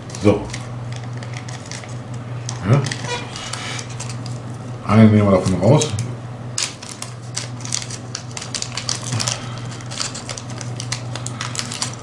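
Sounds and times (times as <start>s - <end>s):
plastic packaging crinkling: 0.0s - 4.5s, 6.6s - 12.0s
steady low hum: 0.0s - 12.0s.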